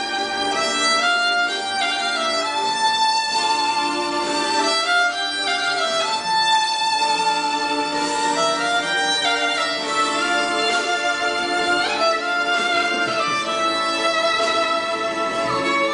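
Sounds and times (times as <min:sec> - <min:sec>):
bowed violin melody: 0:00.0 - 0:15.9.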